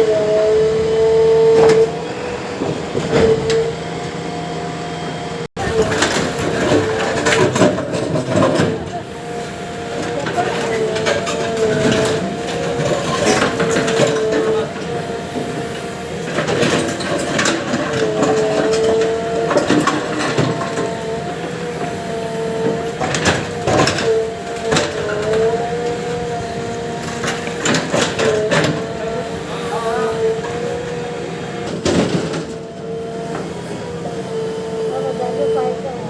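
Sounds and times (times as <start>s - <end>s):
excavator hydraulic and engine whine: 0.0s - 36.0s.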